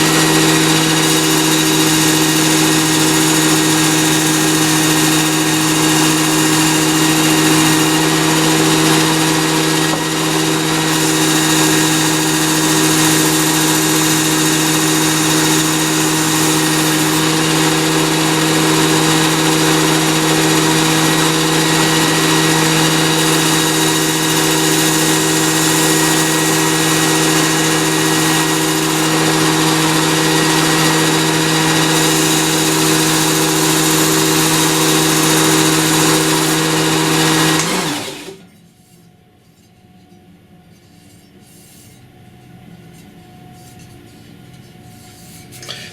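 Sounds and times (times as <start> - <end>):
belt sharpener humming: 0.0 - 38.5.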